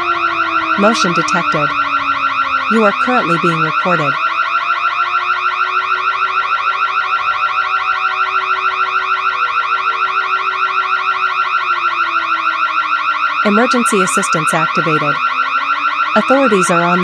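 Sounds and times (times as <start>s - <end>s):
burglar alarm warbling: 0.0s - 17.0s.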